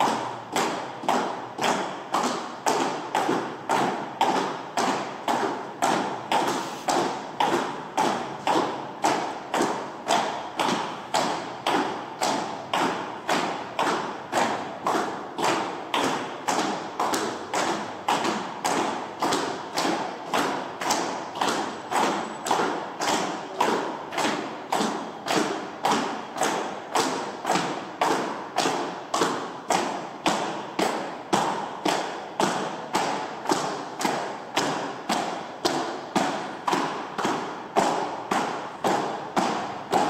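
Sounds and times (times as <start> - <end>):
steady echoing thuds: 0.0 - 40.0.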